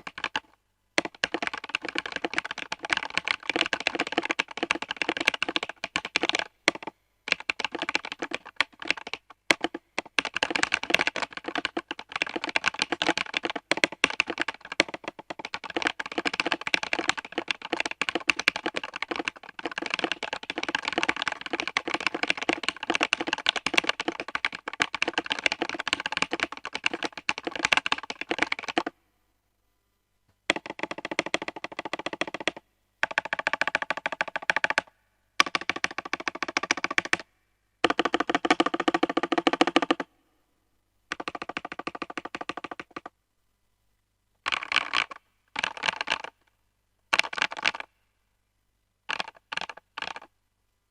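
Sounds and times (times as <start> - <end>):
fast typing on mechanical keyboard: 0.0 - 28.9, 30.5 - 37.2, 37.8 - 40.0, 41.1 - 43.1, 44.4 - 46.4, 47.1 - 47.9, 49.1 - 50.3.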